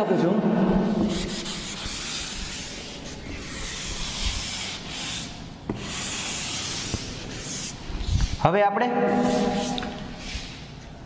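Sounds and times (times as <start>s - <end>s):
duster wiping chalkboard: 0.7s - 10.7s.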